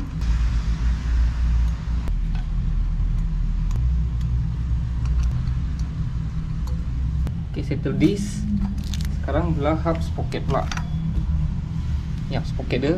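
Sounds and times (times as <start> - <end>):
low mechanical rumble: 0.0 - 12.9.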